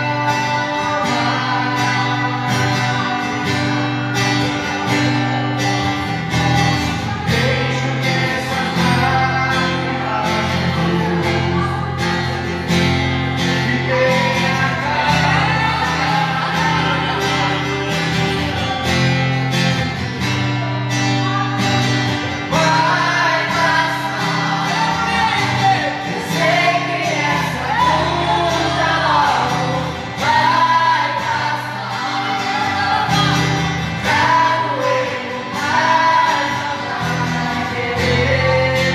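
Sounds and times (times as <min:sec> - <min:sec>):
acoustic guitar strumming: 0:00.0 - 0:38.9
person singing: 0:00.0 - 0:38.9.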